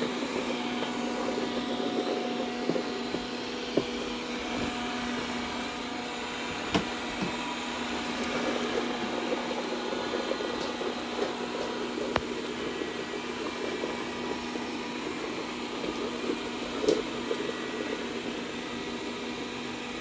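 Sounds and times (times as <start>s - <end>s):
robot vacuum running: 0.0s - 20.0s.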